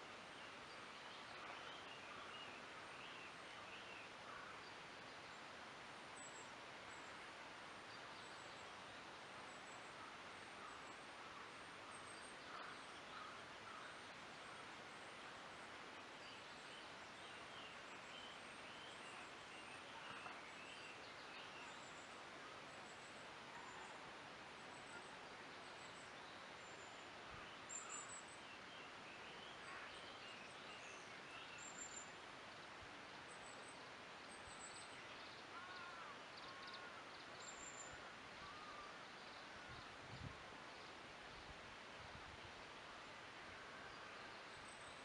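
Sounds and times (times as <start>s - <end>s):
soft forest hiss: 0.0s - 45.0s.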